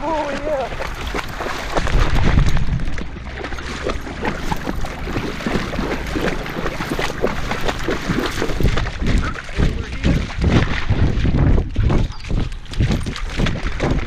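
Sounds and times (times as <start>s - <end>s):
steady low rumble: 0.0s - 14.0s
water splashing around a dog: 0.0s - 14.0s.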